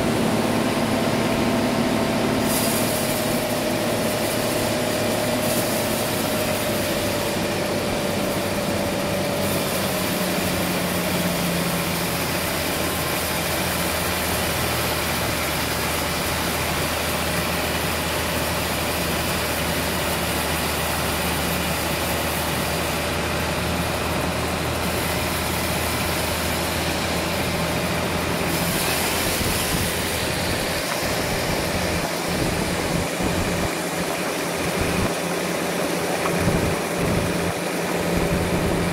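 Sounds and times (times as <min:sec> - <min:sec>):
machinery whine: 0:00.0 - 0:38.9
sawmill engine hum: 0:00.0 - 0:38.9.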